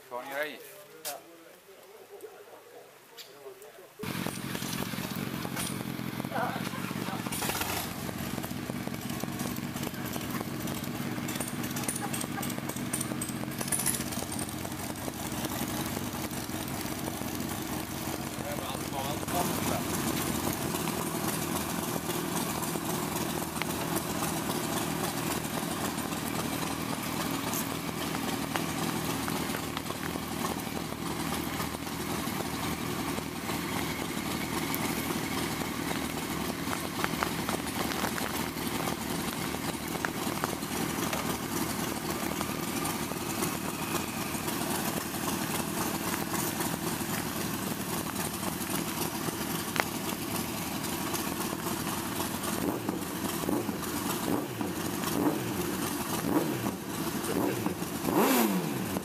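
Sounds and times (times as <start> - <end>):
motorcycle engines idling: 3.7 - 59.0.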